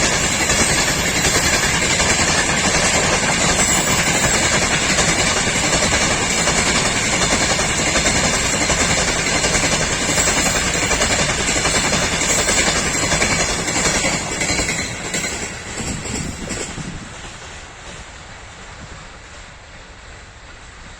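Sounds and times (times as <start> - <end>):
freight train wagons clattering: 0.0 - 19.0.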